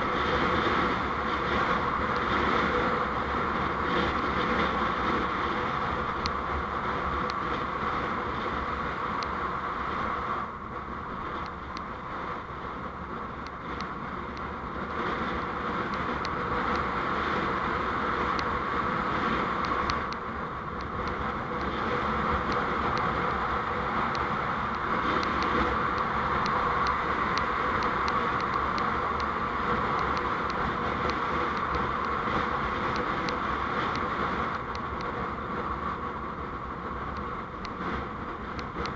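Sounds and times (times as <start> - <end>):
vehicle road and engine noise: 0.0 - 38.9.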